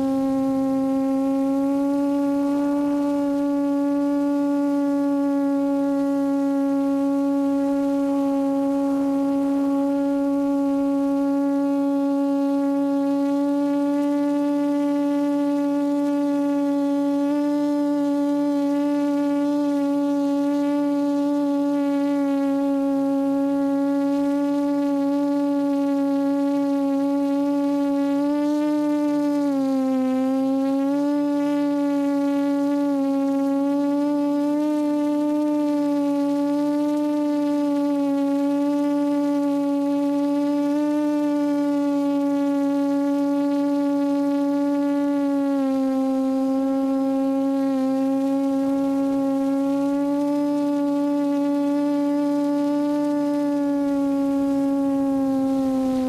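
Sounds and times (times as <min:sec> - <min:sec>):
quadcopter hovering hum: 0:00.0 - 0:56.0.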